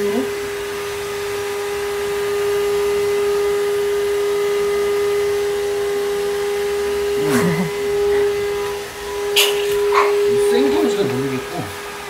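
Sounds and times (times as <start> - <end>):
vacuum cleaner motor whining: 0.0 - 12.0.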